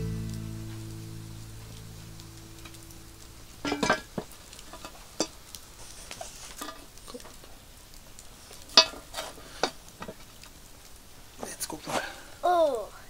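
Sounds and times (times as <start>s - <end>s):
fire popping and snapping: 0.0s - 12.3s
campfire crackling: 0.0s - 13.0s.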